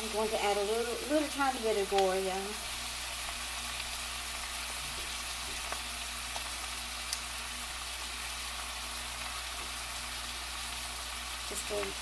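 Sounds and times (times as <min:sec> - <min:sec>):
cabbage sizzling in a pan: 0:00.0 - 0:12.0.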